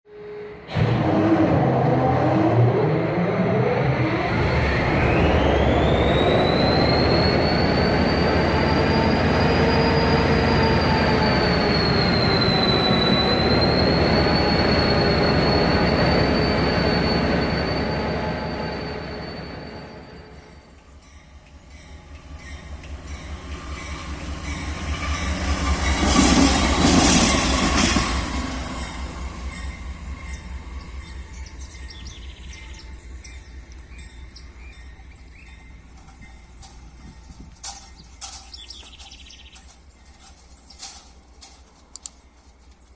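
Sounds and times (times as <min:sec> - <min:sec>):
diesel locomotive passing: 0:00.1 - 0:42.9
rail noise: 0:00.1 - 0:42.9
train rumbling past: 0:00.1 - 0:42.9
high wheel squeal: 0:03.4 - 0:20.8, 0:21.8 - 0:42.9.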